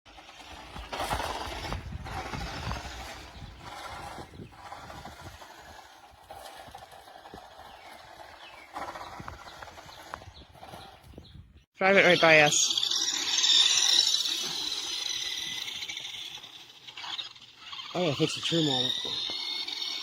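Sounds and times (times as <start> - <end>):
toy truck motor and tyres rattling: 0.1 - 20.0.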